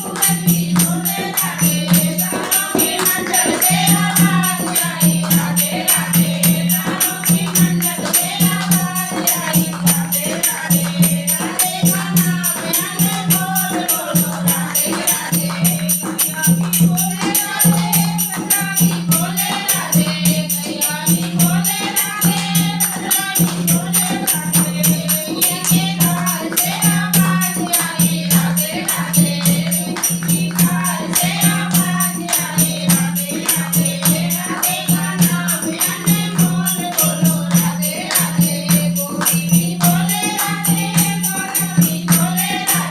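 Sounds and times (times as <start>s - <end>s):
group of voices singing: 0.0s - 42.9s
hand drum beat: 0.0s - 42.9s
jingling hand percussion: 0.0s - 42.9s.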